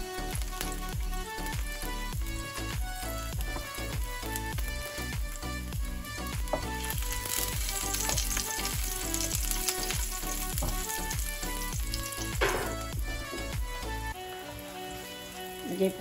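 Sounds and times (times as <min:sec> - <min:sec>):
background music with steady beat: 0:00.0 - 0:16.0
garlic sizzling in oil: 0:00.0 - 0:16.0.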